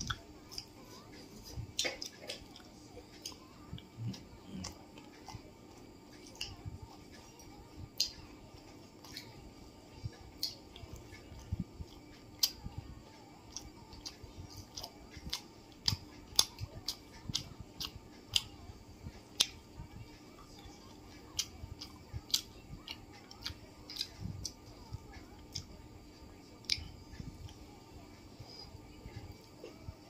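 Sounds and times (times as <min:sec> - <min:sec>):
person chewing with lip-smacking: 0:00.0 - 0:30.0.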